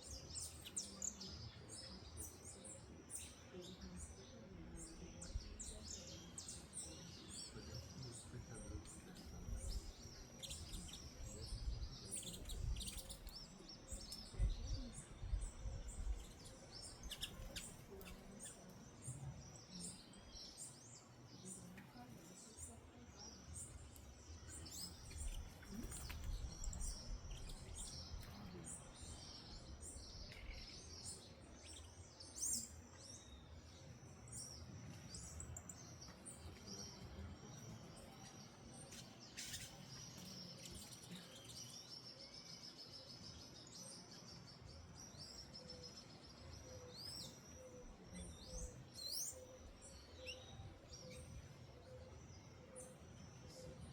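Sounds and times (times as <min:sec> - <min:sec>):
flock of small birds chirping: 0:00.0 - 0:53.9.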